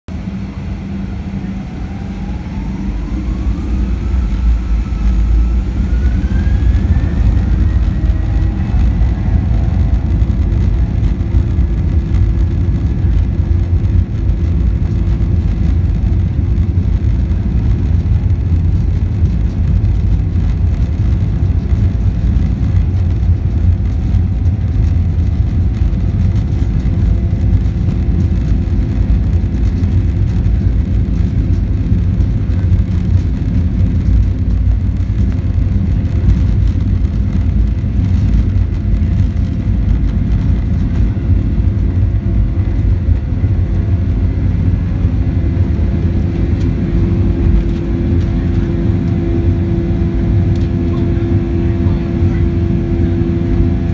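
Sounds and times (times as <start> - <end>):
jet engines roaring: 0.1 - 53.9.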